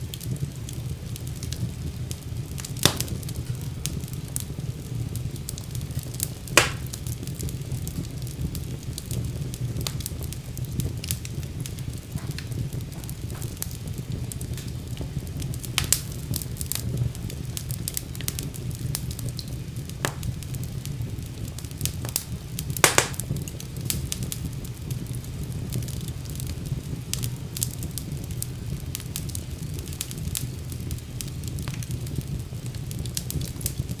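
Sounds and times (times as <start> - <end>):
low rumble of fire flames: 0.0 - 34.0
wood fire crackling and popping: 0.0 - 34.0.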